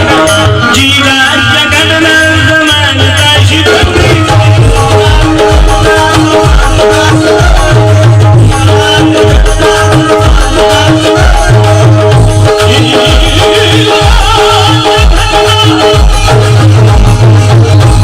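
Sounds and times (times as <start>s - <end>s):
driving hand-drum beat: 0.0s - 18.0s
other percussion: 0.0s - 18.0s.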